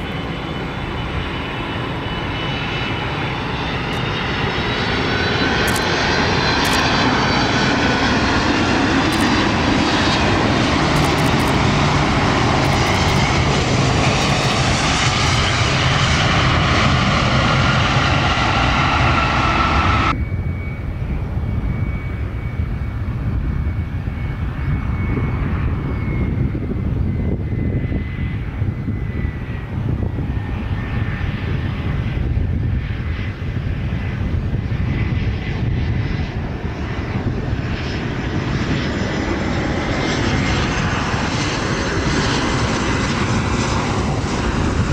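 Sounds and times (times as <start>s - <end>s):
airplane engines running: 0.0s - 44.9s
high engine whine: 0.0s - 44.9s.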